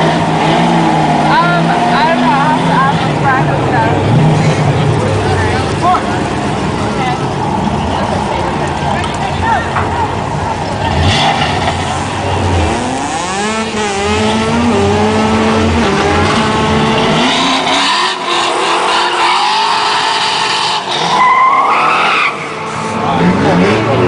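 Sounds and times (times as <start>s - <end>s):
drag-racing car engines: 0.0s - 24.0s.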